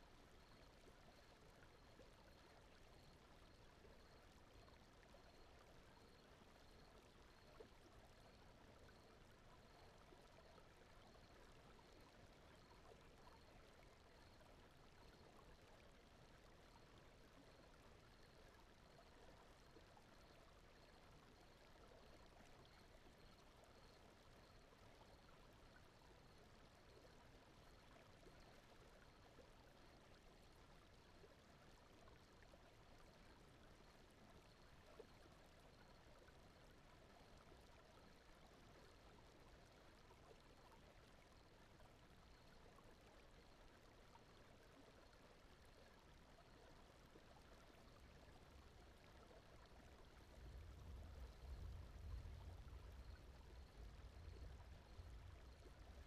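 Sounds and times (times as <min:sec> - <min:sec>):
faint flowing water: 0:00.0 - 0:56.0.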